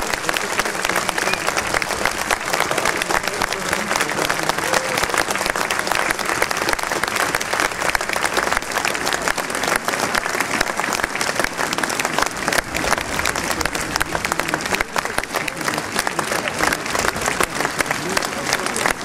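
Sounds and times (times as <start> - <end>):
large crowd applauding: 0.0 - 19.0.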